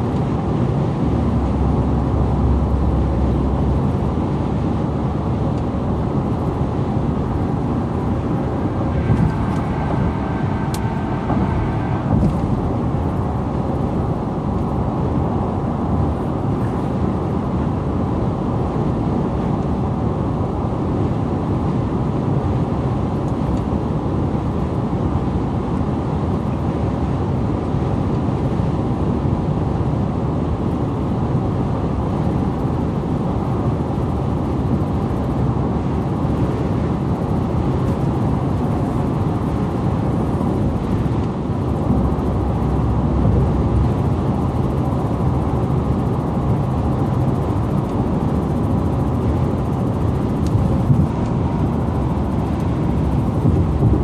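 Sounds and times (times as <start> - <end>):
car cabin road noise: 0.0 - 54.0.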